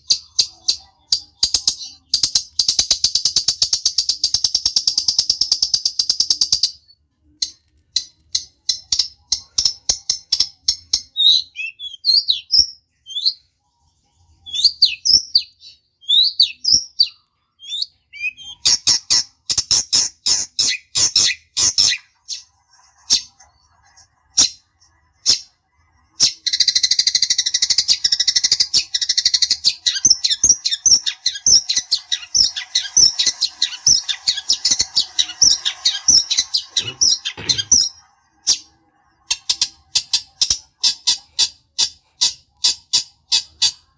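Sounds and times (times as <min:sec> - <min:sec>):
bird ticking and chattering: 0:00.0 - 0:06.8, 0:07.4 - 0:13.3, 0:14.5 - 0:43.9.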